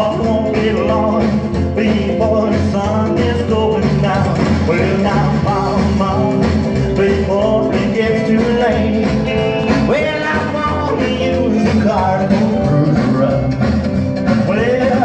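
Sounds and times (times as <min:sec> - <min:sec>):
rock and roll record playing: 0:00.0 - 0:15.0.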